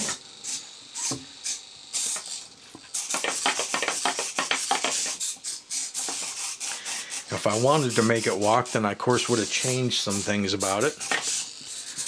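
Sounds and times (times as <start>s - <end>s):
servos buzzing: 0.0s - 12.0s.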